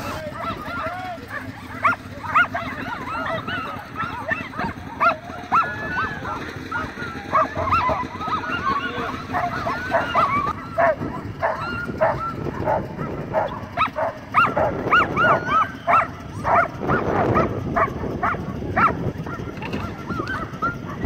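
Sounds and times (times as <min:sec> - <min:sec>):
sled dogs barking and yipping: 0:00.0 - 0:21.0.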